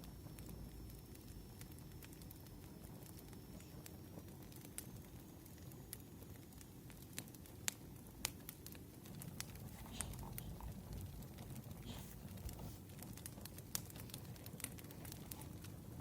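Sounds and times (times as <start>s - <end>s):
firewood crackling: 0.0s - 16.0s.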